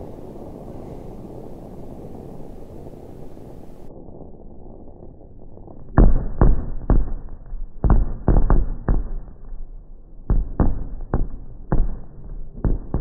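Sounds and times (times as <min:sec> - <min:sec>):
fireworks bursting with loud bangs: 0:00.0 - 0:13.0.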